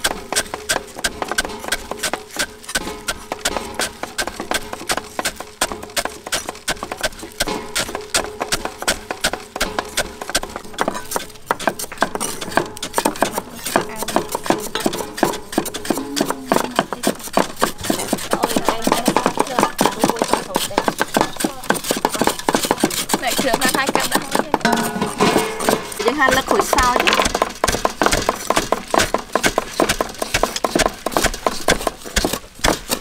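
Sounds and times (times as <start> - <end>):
cleavers chopping on wooden boards: 0.0 - 33.0
pestle pounding in wooden mortar: 0.0 - 33.0.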